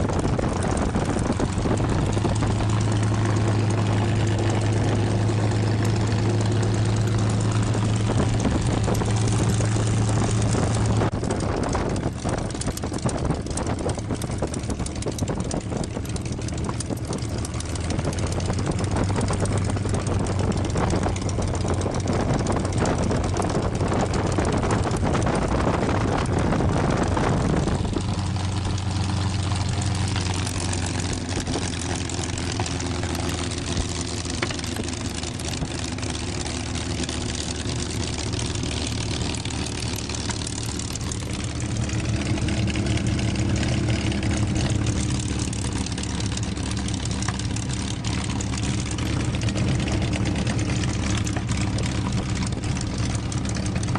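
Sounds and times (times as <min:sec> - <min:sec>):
propeller aircraft engine running: 0:00.0 - 0:53.9.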